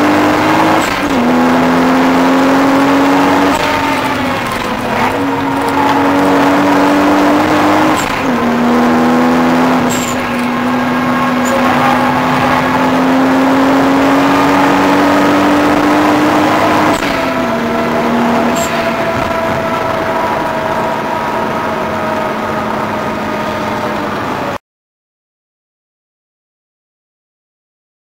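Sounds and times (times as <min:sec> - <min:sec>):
car engine accelerating: 0:00.0 - 0:24.6.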